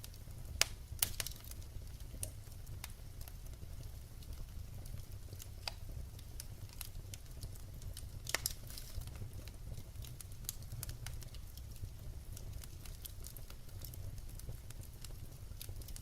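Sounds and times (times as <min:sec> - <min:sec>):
fire crackling and popping: 0:00.0 - 0:16.0
wood fire rumbling: 0:00.0 - 0:16.0.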